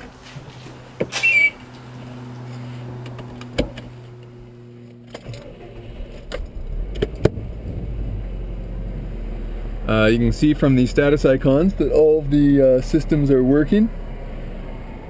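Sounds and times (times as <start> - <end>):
car engine rumble: 0.0 - 15.0.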